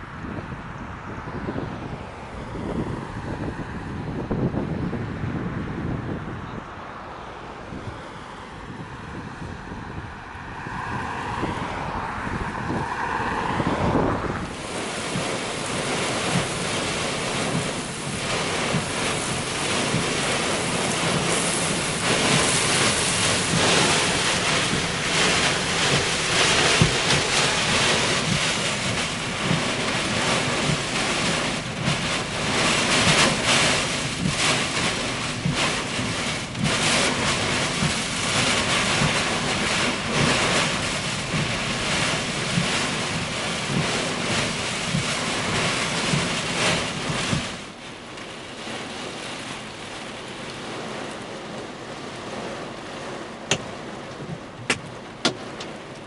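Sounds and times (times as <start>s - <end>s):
gusting wind: 0.0s - 56.0s
rain hitting a car: 7.4s - 56.0s.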